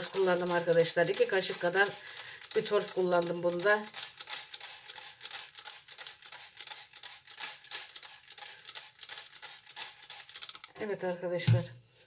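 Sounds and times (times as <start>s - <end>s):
spray bottle hissing spurts: 0.0s - 10.7s.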